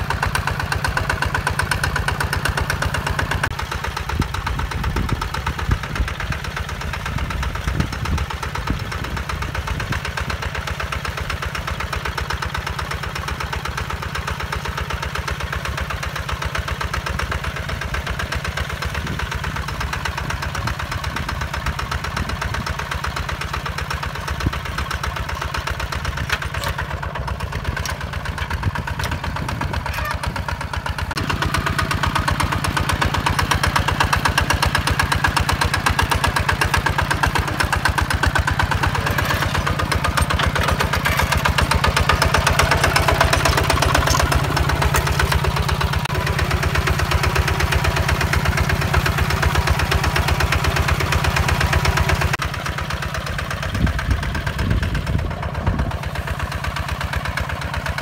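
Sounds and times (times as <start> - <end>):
rotary tiller churning soil: 0.0 - 52.8
diesel tractor engine running: 0.0 - 58.0.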